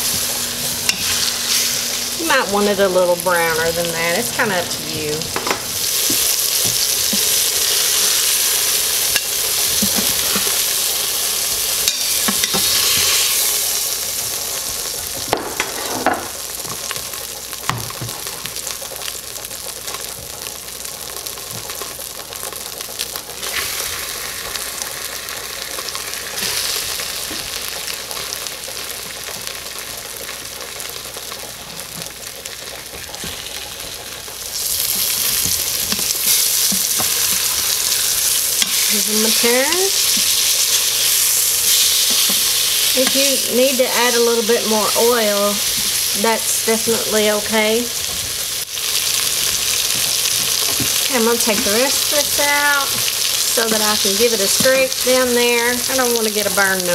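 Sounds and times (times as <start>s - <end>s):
oil sizzling with steak browning: 0.0s - 56.9s.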